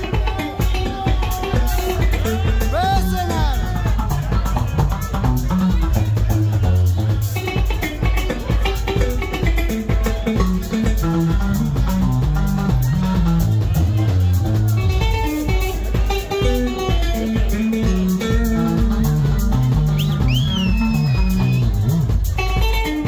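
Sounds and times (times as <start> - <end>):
live band playing: 0.0 - 23.0
melodic electric bass line: 0.0 - 23.0.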